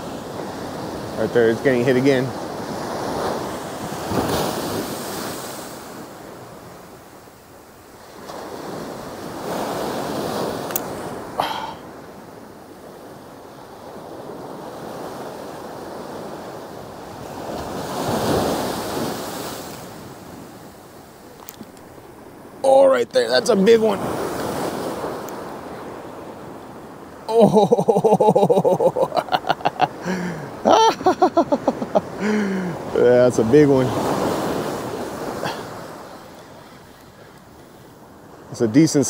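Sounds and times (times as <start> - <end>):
surf washing up a beach: 0.0 - 39.0.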